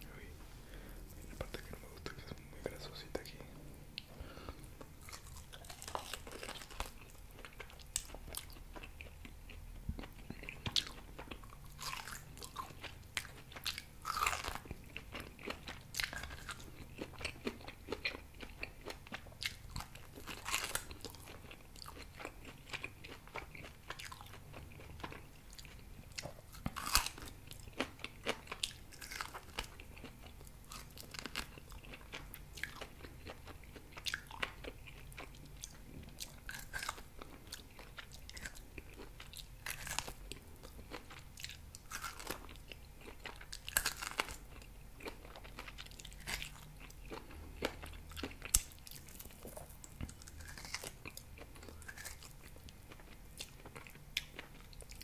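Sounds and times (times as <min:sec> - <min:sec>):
biting and chewing meat: 0:04.0 - 0:55.0.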